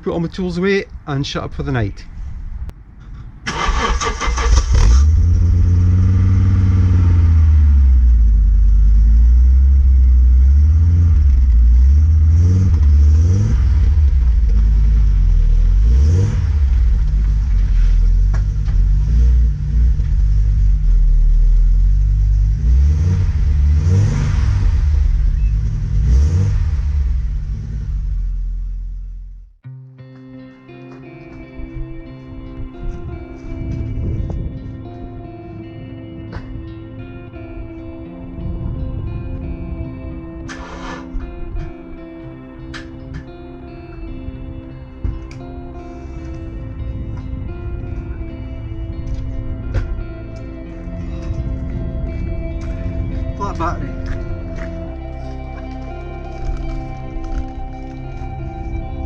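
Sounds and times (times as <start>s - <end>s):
car engine starting and revving: 3.5s - 29.6s, 37.0s - 59.0s.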